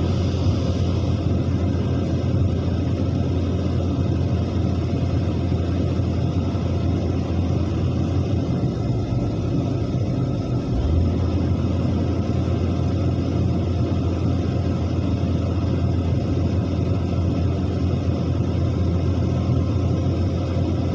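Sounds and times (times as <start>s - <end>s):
diesel machinery engine rumbling: 0.0s - 20.9s.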